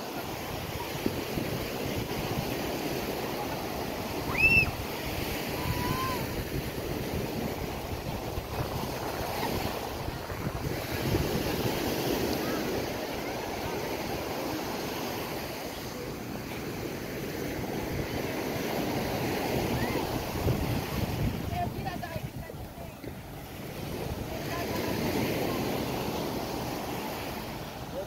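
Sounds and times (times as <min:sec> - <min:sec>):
wind on microphone: 0:00.0 - 0:16.1, 0:16.8 - 0:27.4
waves washing onto beach: 0:00.0 - 0:28.0.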